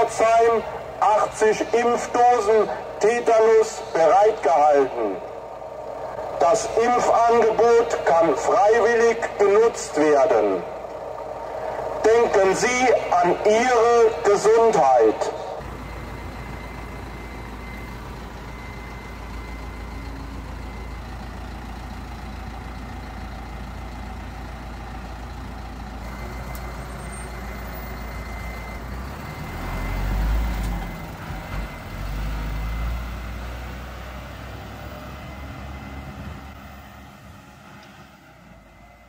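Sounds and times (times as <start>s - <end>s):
truck engine humming: 0.0s - 39.0s.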